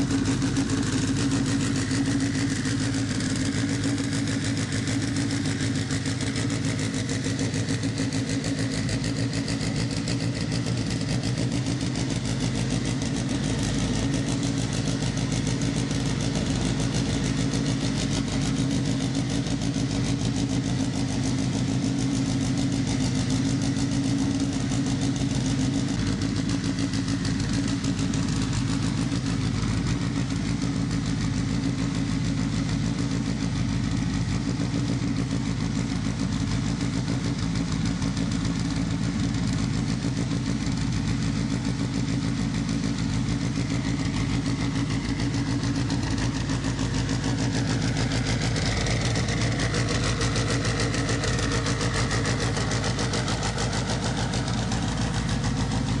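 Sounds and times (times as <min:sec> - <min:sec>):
car engine running steadily: 0:00.0 - 0:56.0.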